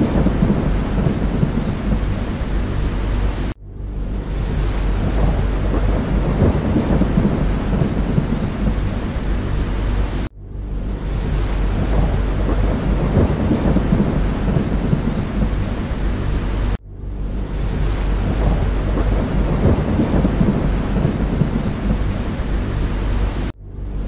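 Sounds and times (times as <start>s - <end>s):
deep low rumble: 0.0s - 24.0s
steady rain: 0.0s - 24.0s.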